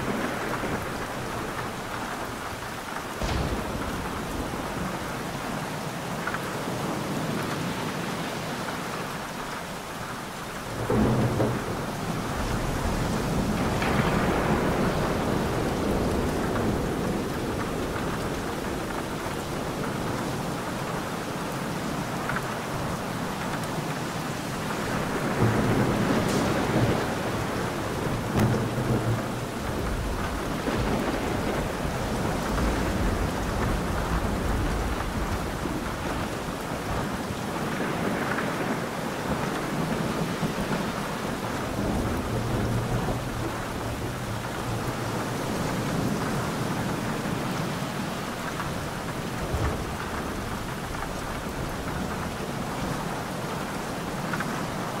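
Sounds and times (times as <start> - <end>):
rolling thunder: 0.0 - 5.9, 10.6 - 53.3
steady rain: 0.0 - 55.0.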